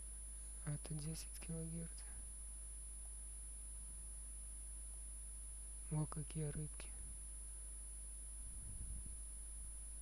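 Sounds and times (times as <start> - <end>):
faint low hum: 0.0 - 10.0
high-pitched sine tone: 0.0 - 10.0.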